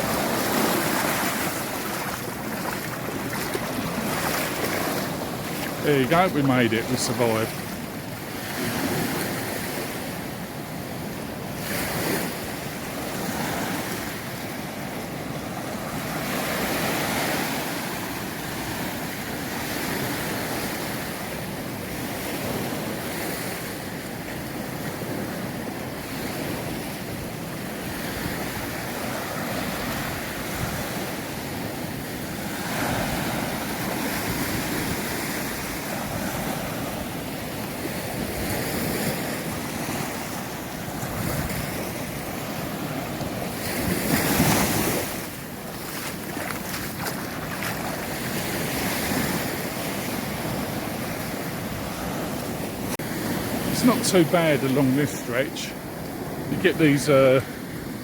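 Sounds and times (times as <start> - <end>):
surf breaking on a beach: 0.0 - 58.0.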